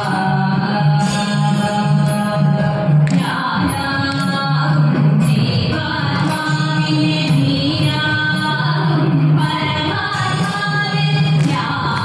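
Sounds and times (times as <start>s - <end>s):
women singing folk song: 0.0s - 12.0s.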